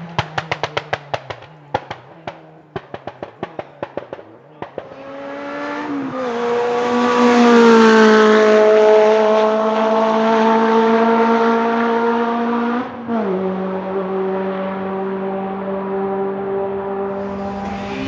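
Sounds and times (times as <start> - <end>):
racing car engine at high revs: 0.0 - 18.0.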